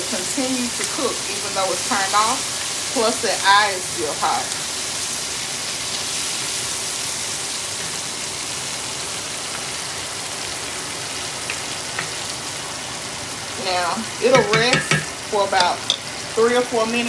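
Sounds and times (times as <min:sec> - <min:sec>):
food sizzling in a skillet: 0:00.0 - 0:17.0.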